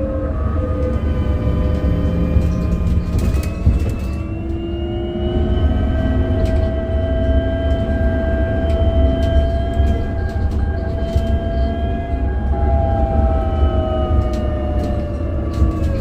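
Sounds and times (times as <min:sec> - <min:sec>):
electric bus motor whining: 0:00.0 - 0:16.0
heavy low rumble: 0:00.0 - 0:16.0.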